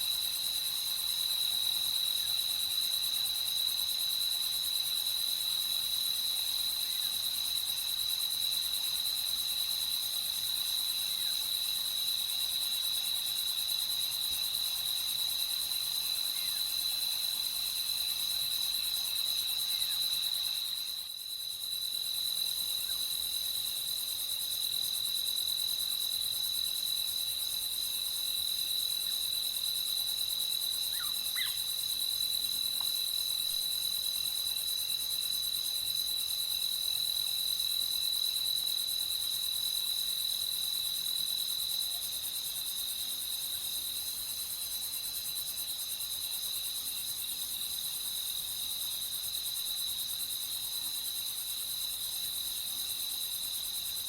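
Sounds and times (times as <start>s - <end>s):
crickets trilling: 6.2s - 54.0s.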